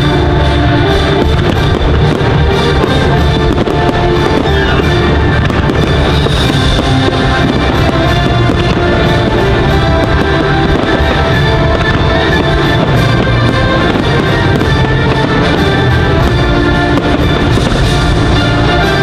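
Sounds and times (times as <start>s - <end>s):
fireworks banging and crackling: 0.0s - 19.0s
loud soundtrack music: 0.0s - 19.0s.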